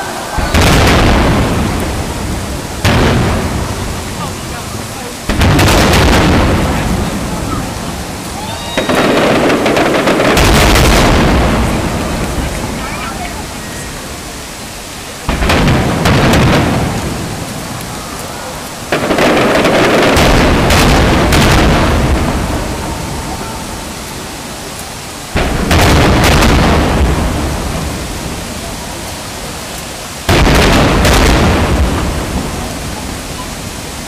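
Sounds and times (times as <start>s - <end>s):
sharp firework cracks: 0.0s - 33.7s
firework shells booming: 0.0s - 33.8s.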